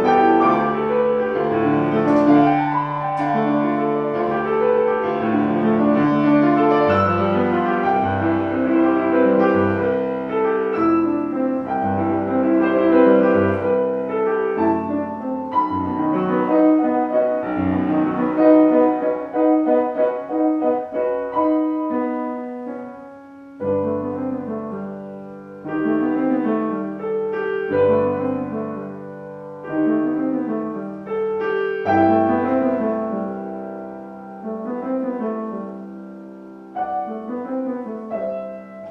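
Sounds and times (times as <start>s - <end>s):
classical piano music: 0.0s - 38.9s.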